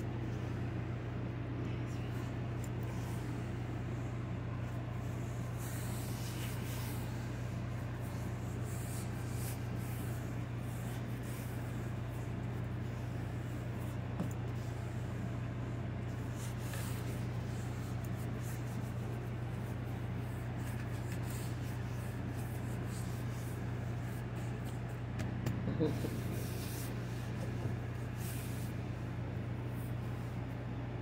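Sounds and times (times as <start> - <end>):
hands rubbing bread dough: 0.0 - 30.8
steady low hum: 0.0 - 31.0.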